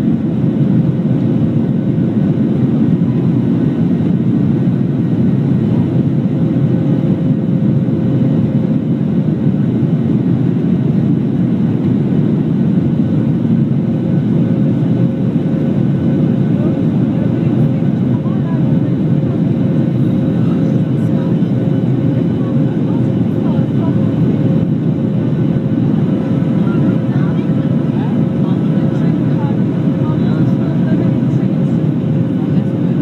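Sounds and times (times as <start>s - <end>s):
jet engines and rushing air: 0.0s - 33.0s.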